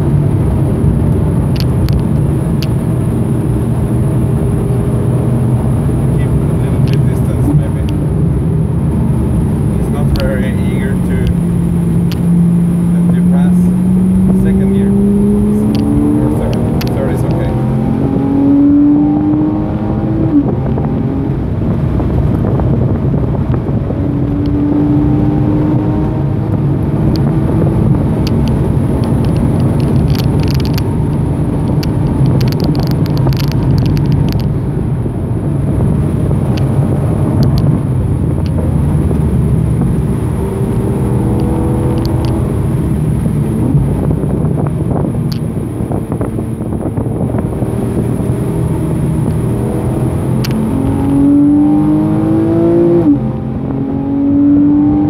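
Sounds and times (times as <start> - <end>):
car engine from inside cabin: 0.0 - 55.0
tyre and road noise: 0.0 - 55.0.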